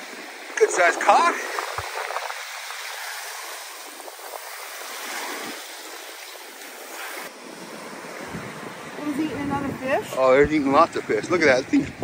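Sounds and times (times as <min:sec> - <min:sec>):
small waves washing up a beach: 0:00.0 - 0:12.0.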